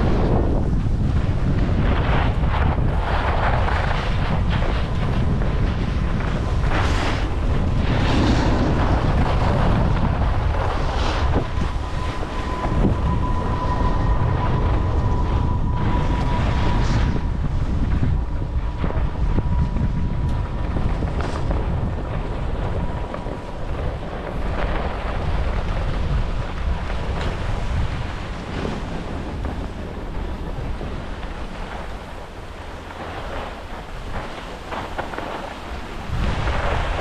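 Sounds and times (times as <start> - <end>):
skis scraping over snow: 0.0 - 37.0
wind buffeting microphone: 0.0 - 37.0.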